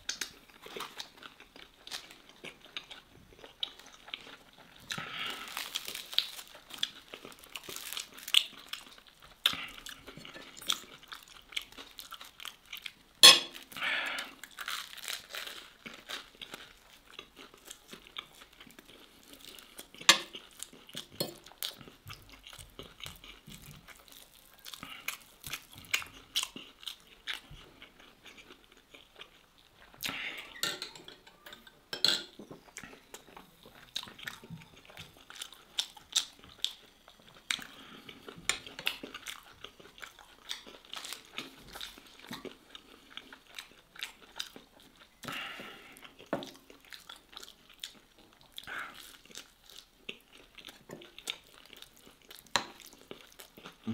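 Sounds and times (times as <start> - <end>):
chewing steak: 0.0 - 53.9.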